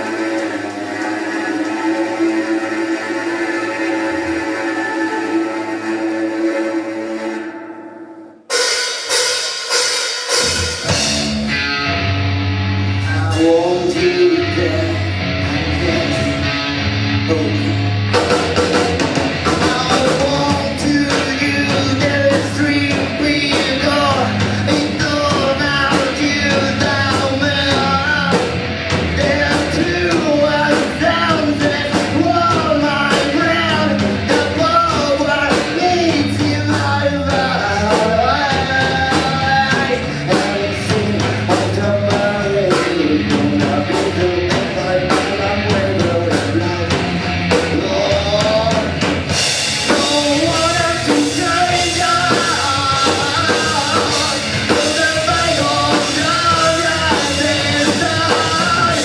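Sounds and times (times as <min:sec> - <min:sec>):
person singing: 0:00.0 - 0:08.4, 0:12.9 - 0:59.0
live rock band playing: 0:00.0 - 0:59.0.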